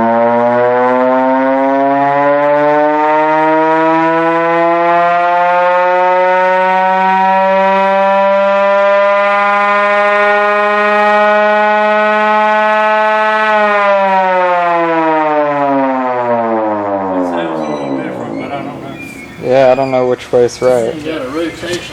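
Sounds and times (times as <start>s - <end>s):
rotary siren wailing: 0.0s - 21.6s.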